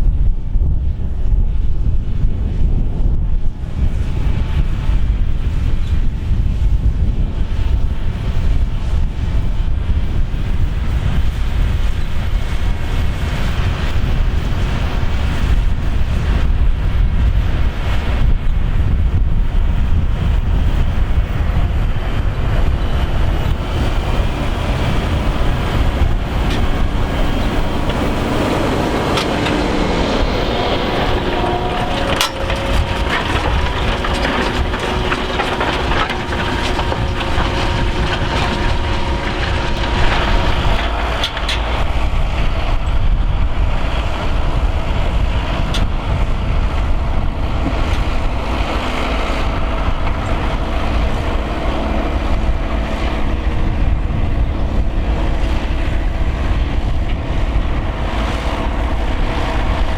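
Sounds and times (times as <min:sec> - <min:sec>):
tractor engine under load: 0:06.4 - 0:59.9.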